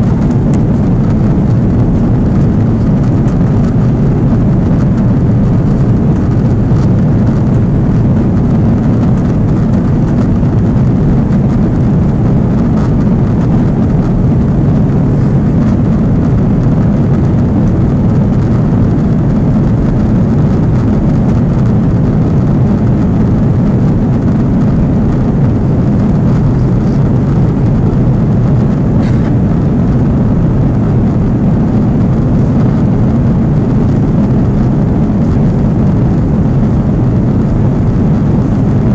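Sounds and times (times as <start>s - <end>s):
jet engines and rushing air: 0.0s - 38.9s.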